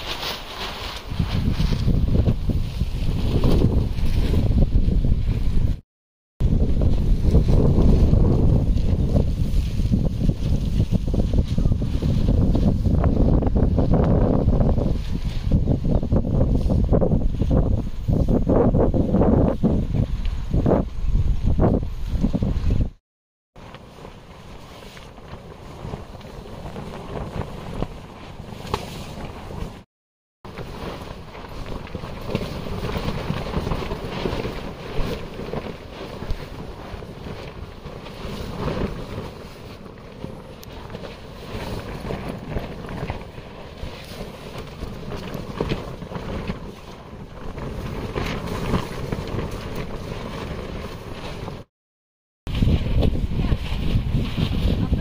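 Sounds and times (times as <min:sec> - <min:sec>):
tent fabric rustling: 0:00.0 - 0:05.8, 0:06.4 - 0:20.8, 0:23.6 - 0:29.9, 0:30.5 - 0:51.7, 0:52.5 - 0:55.0
wind gusts on microphone: 0:00.0 - 0:05.8, 0:06.4 - 0:23.0, 0:23.6 - 0:29.9, 0:30.5 - 0:51.7, 0:52.5 - 0:55.0.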